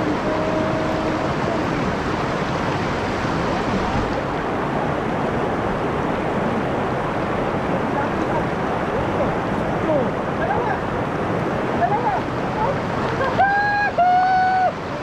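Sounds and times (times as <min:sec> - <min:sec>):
river water rushing over weir: 0:00.0 - 0:15.0.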